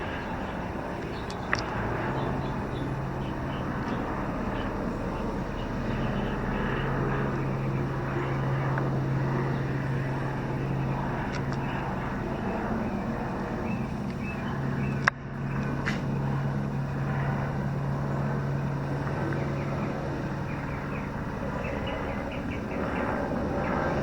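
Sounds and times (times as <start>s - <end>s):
helicopter flying overhead: 0.0s - 24.0s.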